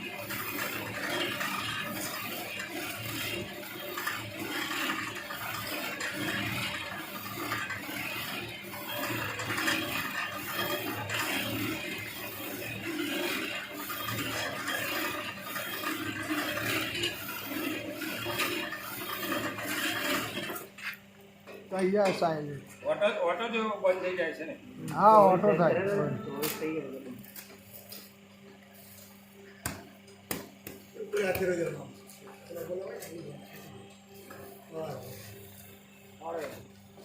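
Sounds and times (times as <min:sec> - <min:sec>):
electric motor hum: 0:00.0 - 0:37.0.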